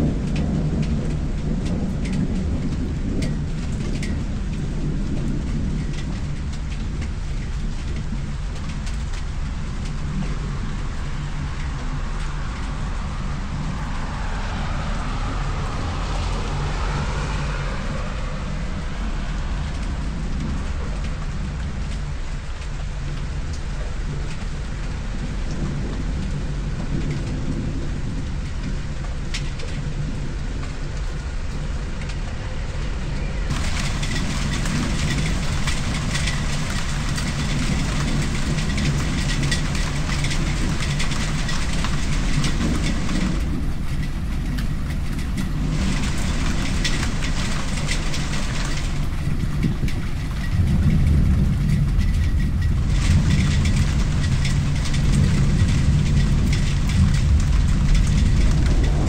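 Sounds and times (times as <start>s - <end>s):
low rumble: 0.0s - 59.0s
steady rain falling: 0.0s - 59.0s.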